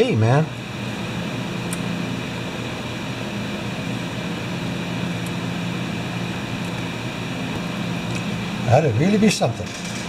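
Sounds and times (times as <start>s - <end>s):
fan humming: 0.0s - 10.0s.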